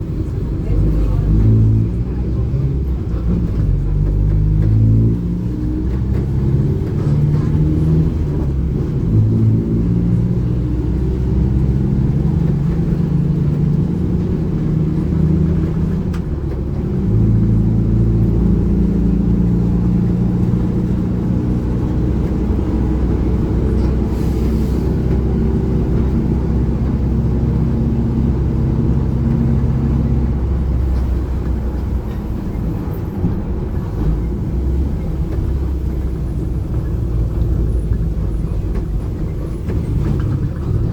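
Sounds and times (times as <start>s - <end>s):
bus differential growling: 0.0s - 40.9s.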